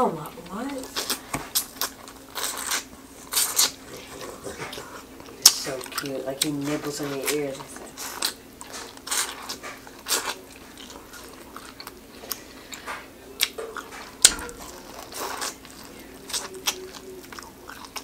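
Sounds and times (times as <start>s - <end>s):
chewing corn on the cob: 0.2s - 18.0s.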